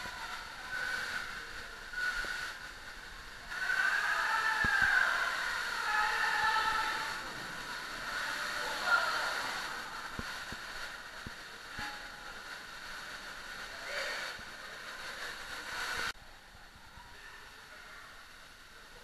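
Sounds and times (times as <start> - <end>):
running water hiss: 0.0 - 19.0.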